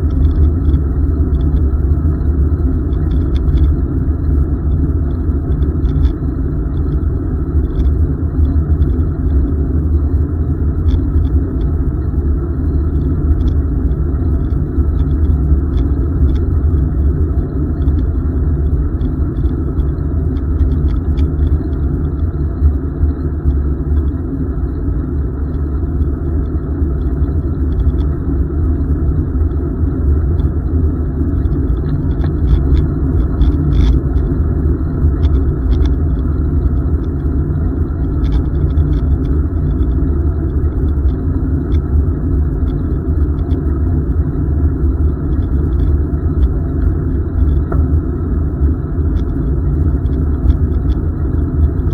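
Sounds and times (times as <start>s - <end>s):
bicycle rolling noise: 0.0s - 51.9s
faint ticks: 0.0s - 51.9s
wind rumble on microphone: 0.0s - 51.9s.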